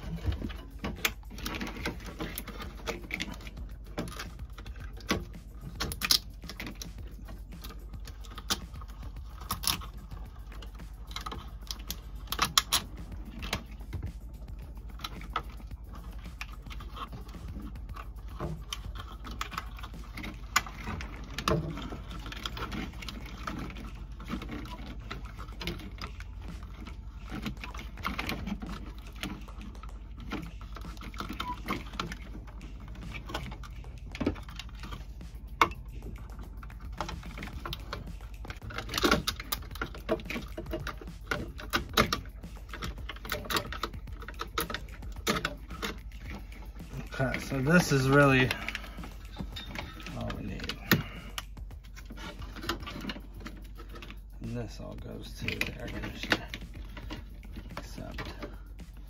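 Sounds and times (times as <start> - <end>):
steady low hum: 0.0 - 59.0
wiring clicks and rustles: 0.0 - 59.0.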